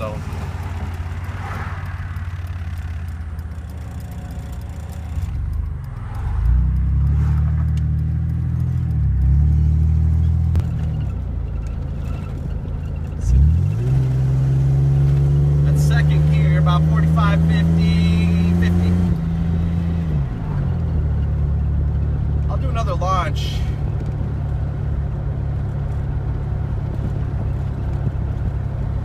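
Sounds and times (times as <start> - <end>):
car engine while driving: 0.0 - 29.0.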